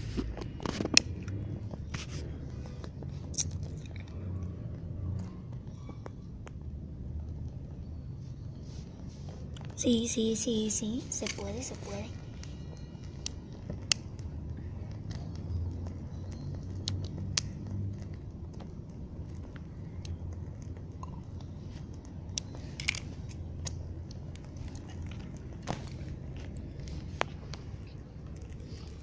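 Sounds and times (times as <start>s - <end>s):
fire crackling: 0.0s - 29.0s
low rumble: 0.0s - 29.0s.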